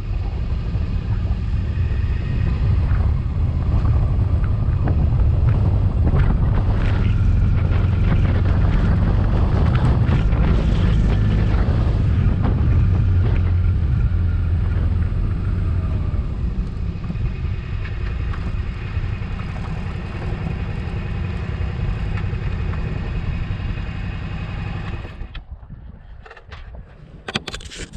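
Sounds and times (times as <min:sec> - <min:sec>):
motorcycle engine running: 0:00.0 - 0:25.3
wind and road noise: 0:00.0 - 0:27.9.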